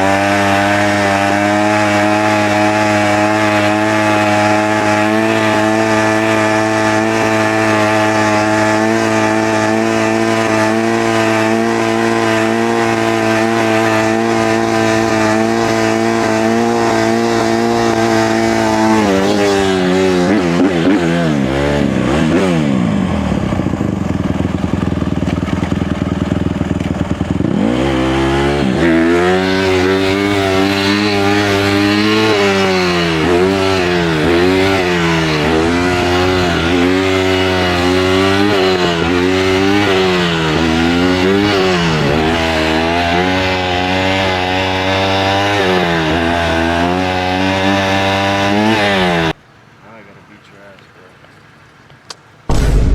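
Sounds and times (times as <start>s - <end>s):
dirt bike engine revving: 0.0s - 49.4s, 52.5s - 52.9s.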